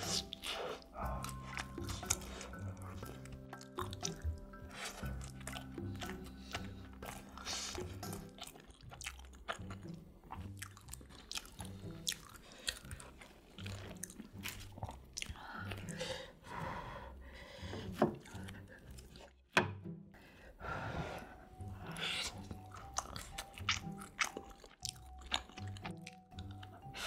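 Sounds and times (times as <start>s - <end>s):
close-miked chewing: 0.0s - 16.4s, 18.1s - 19.4s, 21.6s - 27.0s
quiet background music: 0.0s - 27.0s.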